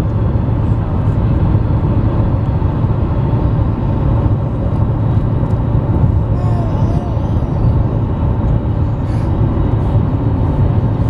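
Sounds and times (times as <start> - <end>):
car road rumble from inside: 0.0 - 11.0.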